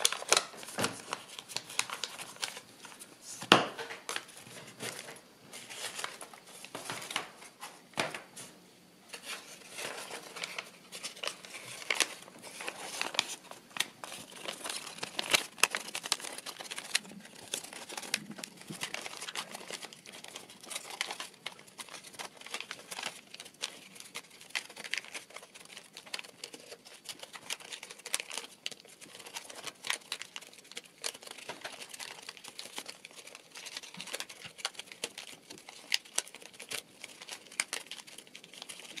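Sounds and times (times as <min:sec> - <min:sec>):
paper crackling and rustling: 0:00.0 - 0:39.0.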